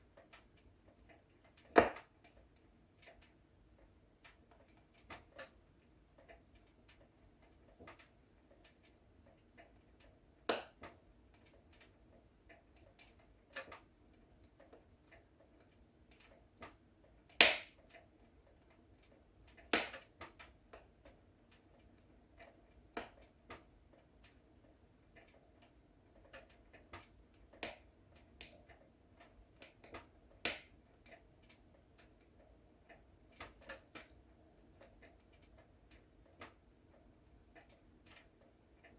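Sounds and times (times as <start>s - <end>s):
wood fire popping and snapping: 0.0s - 38.9s.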